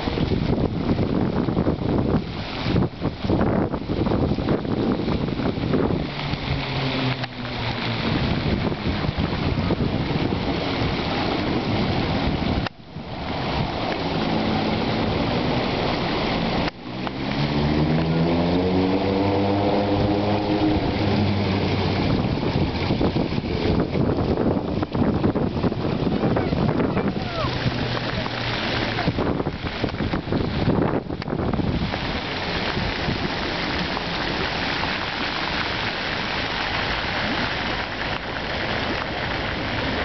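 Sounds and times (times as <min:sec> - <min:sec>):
water rushing and splashing: 0:00.0 - 0:40.0
wind buffeting microphone: 0:00.0 - 0:40.0.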